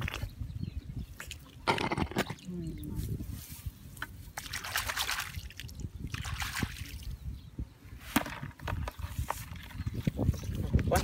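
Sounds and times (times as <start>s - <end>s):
water splashing and trickling: 0.0s - 7.4s, 8.3s - 11.0s.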